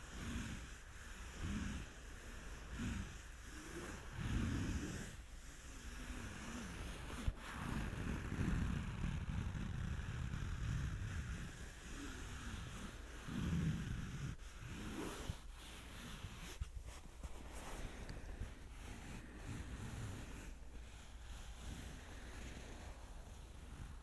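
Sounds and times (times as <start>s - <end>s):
rubbing scrapes on a microphone: 0.0s - 24.0s.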